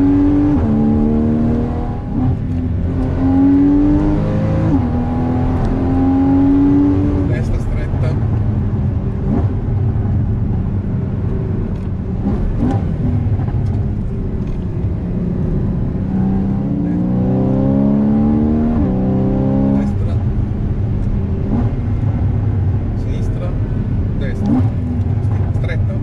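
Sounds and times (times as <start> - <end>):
car engine accelerating: 0.0 - 26.0
road rumble: 0.0 - 26.0.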